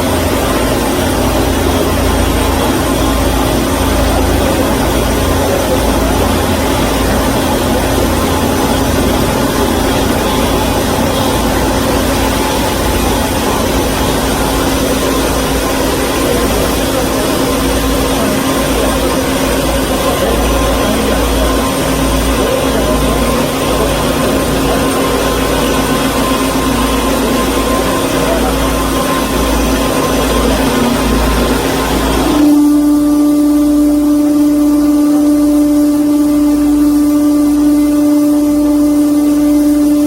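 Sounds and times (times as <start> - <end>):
band saw machine hum: 0.0 - 40.0
faint high whine: 0.0 - 40.0.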